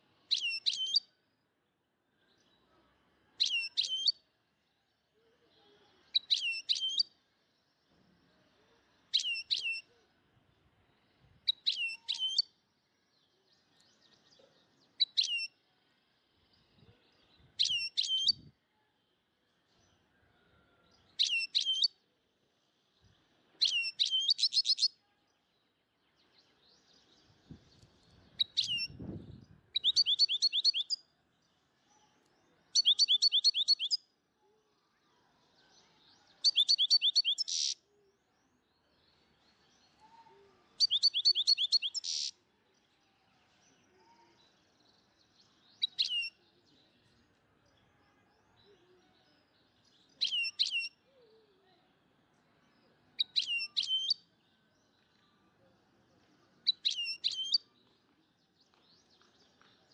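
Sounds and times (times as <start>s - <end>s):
small bird chirping trills: 0.0s - 1.4s, 2.2s - 34.1s, 35.2s - 59.9s.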